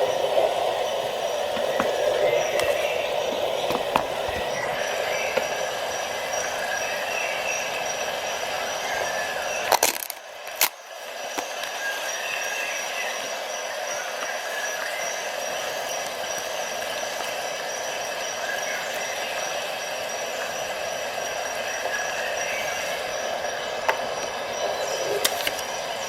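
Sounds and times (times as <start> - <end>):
faint high whine: 0.0 - 26.0
steady background noise: 0.0 - 26.0.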